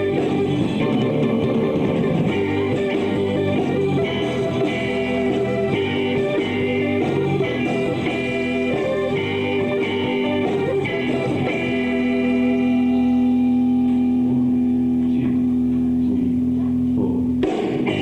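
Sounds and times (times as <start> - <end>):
live band playing: 0.0 - 14.2, 17.4 - 18.0
electric guitar: 0.0 - 18.0.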